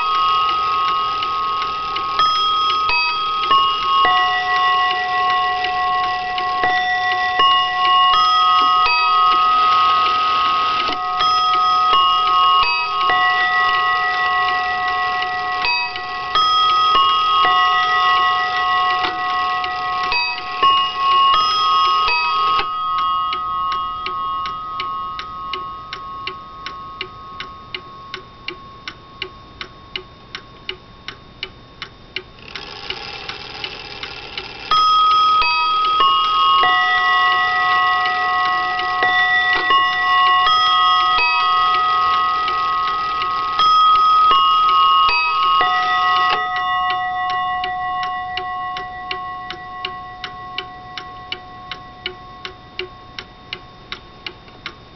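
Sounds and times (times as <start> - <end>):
clock chime melody: 0.0 - 30.4, 32.4 - 54.9
clock ticking: 0.0 - 54.9.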